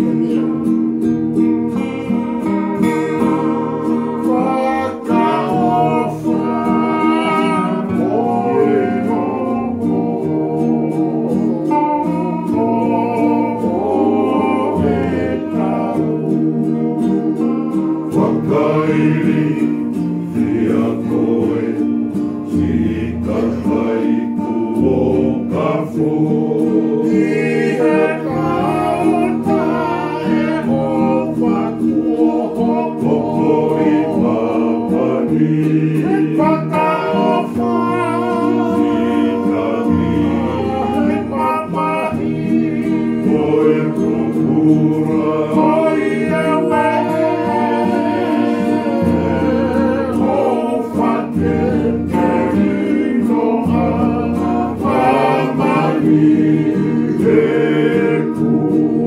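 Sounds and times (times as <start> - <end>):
acoustic guitars: 0.0 - 59.0
men singing together: 0.0 - 59.0.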